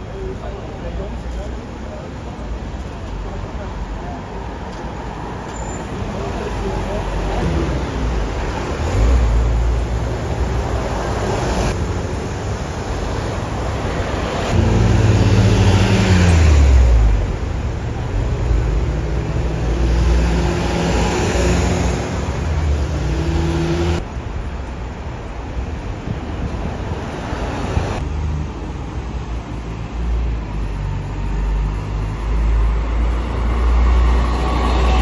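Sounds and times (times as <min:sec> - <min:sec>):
buses driving past: 0:01.6 - 0:35.0.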